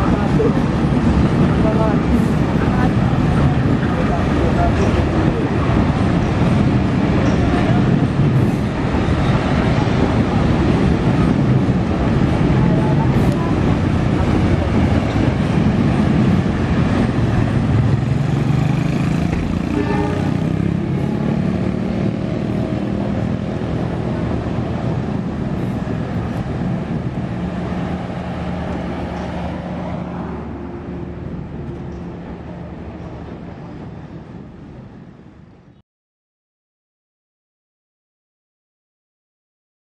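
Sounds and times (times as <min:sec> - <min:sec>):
train wheel noise: 0:00.0 - 0:35.2
diesel train engine rumble: 0:00.0 - 0:35.8
road traffic: 0:00.0 - 0:35.8.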